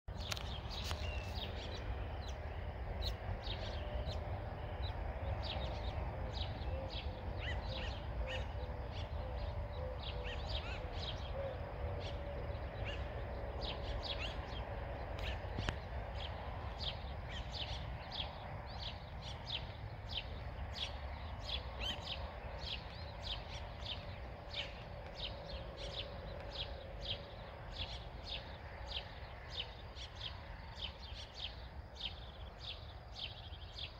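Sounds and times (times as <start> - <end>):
small birds chirping: 0.1 - 33.9
steady low rumble: 0.1 - 33.9.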